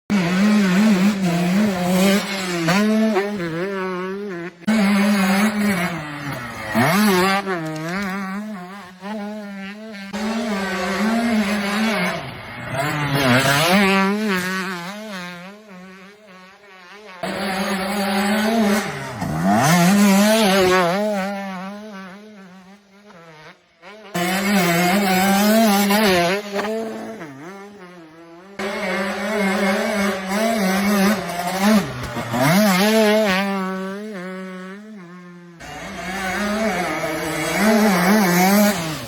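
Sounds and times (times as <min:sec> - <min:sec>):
motorcycle engine revving: 0:00.1 - 0:39.0.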